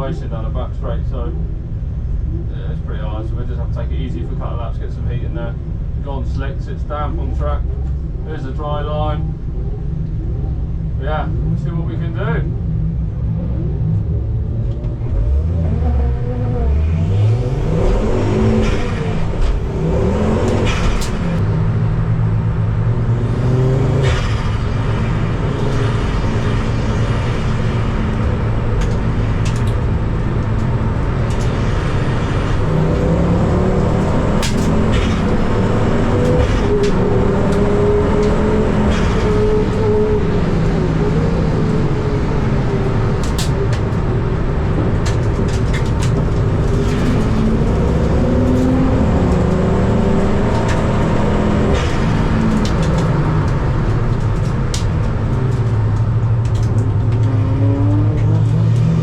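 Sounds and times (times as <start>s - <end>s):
car engine revving: 0.0s - 59.0s
road and tyre rumble: 0.0s - 59.0s.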